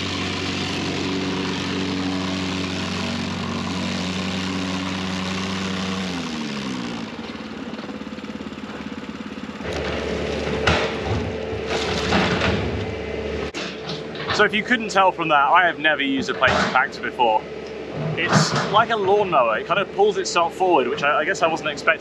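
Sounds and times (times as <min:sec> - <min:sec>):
plate compactor engine running: 0:00.0 - 0:22.0.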